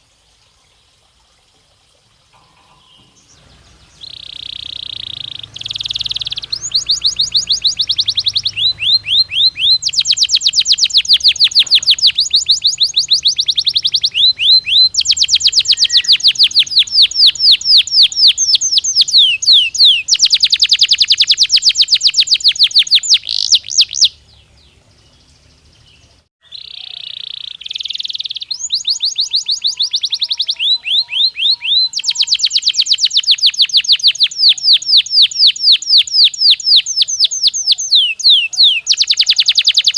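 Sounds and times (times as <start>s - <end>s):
canary singing trills: 2.3s - 39.9s.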